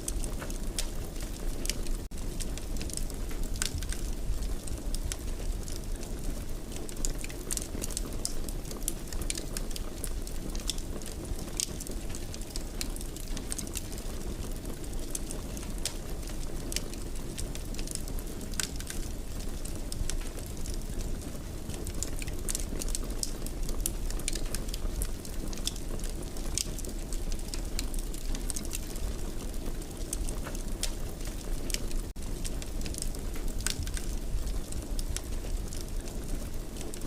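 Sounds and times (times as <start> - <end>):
low rumble of flames: 0.0 - 37.0
wood fire crackling: 0.0 - 37.0.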